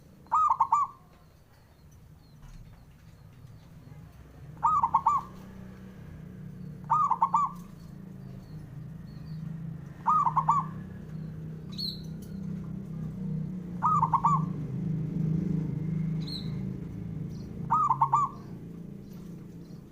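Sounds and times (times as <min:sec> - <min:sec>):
high bird chirp: 0:00.0 - 0:05.8, 0:06.4 - 0:12.6, 0:13.2 - 0:14.6, 0:16.2 - 0:19.9
steady low hum: 0:00.0 - 0:19.9
dove cooing: 0:00.2 - 0:01.3, 0:04.4 - 0:06.0, 0:06.6 - 0:19.9.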